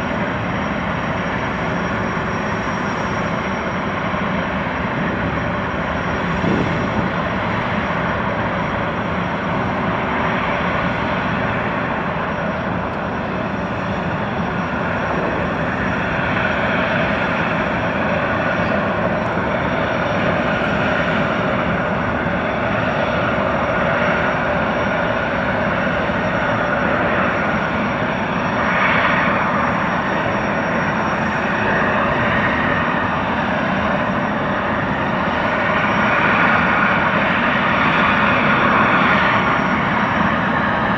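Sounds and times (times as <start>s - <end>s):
gas turbine engines running: 0.0s - 40.9s.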